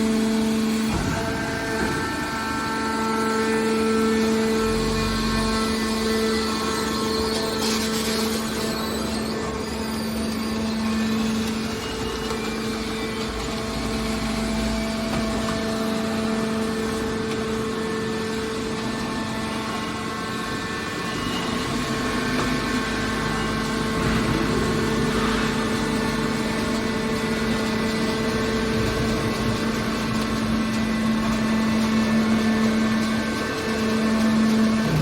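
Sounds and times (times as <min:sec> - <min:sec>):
baler motor hum: 0:00.0 - 0:35.0.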